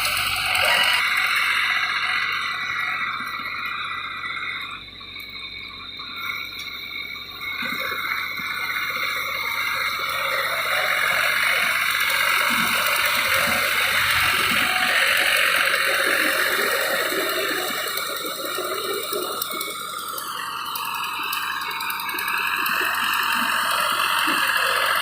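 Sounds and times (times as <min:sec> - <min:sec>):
frogs calling: 0:00.0 - 0:25.0
insects calling: 0:00.0 - 0:25.0.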